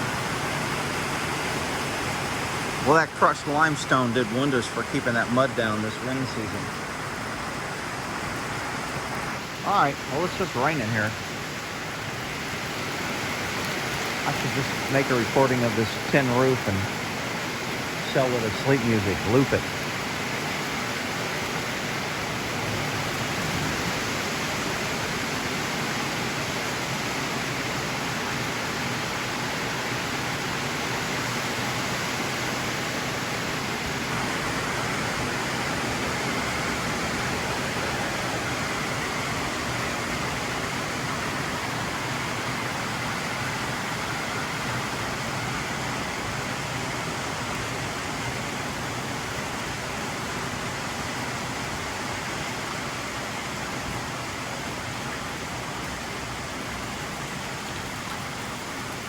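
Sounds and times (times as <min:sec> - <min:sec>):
rain drumming on a tin roof: 0:00.0 - 0:59.0.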